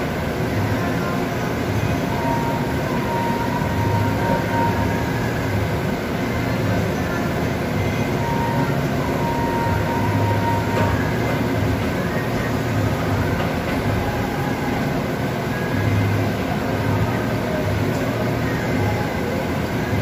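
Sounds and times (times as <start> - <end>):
rumbling machine noise: 0.0 - 20.0.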